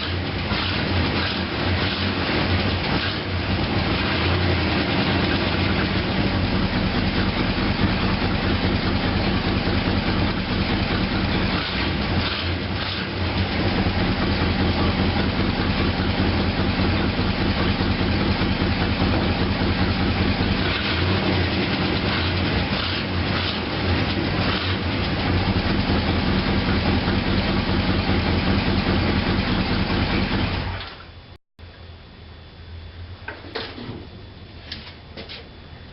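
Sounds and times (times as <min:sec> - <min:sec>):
car engine running rough: 0:00.0 - 0:30.9.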